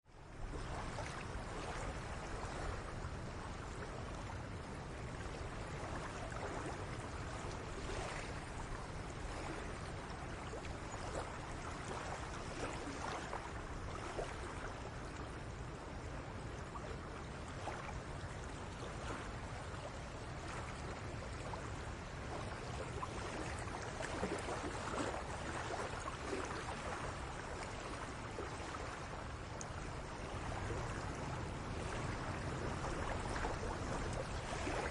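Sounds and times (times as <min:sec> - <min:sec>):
seawater lapping at shore: 0:00.0 - 0:34.9
small water splashes: 0:00.0 - 0:34.9.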